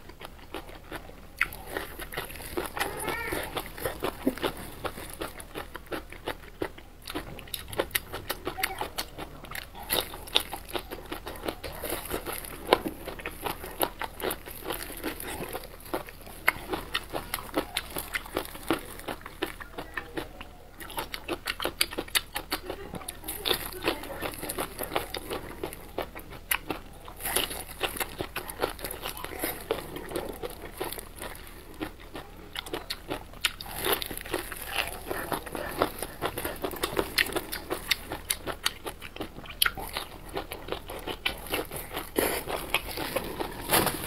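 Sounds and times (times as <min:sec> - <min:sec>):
wet chewing and mouth smacking: 0:00.0 - 0:44.0.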